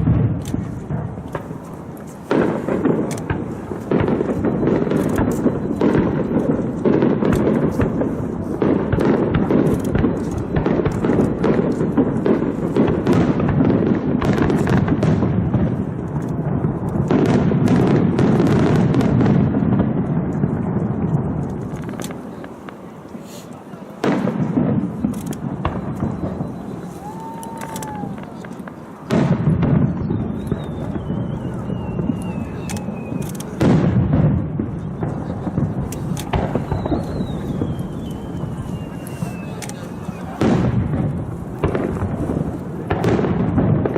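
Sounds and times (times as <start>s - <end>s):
fireworks booming and crackling: 0.0s - 43.9s.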